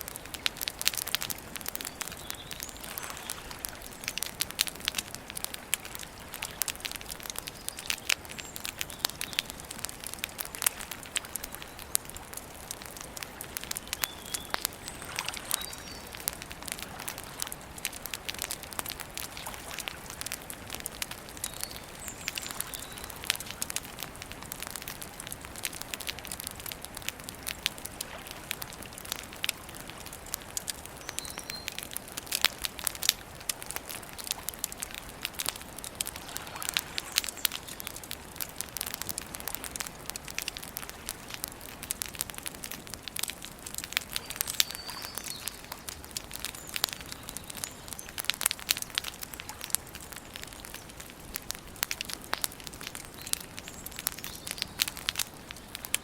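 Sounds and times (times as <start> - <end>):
campfire crackling and popping: 0.0 - 56.0
steady fire hiss: 0.0 - 56.0.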